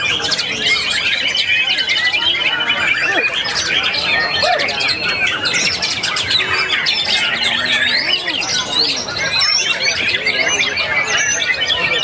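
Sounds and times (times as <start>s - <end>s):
birds singing and squawking: 0.0s - 12.0s.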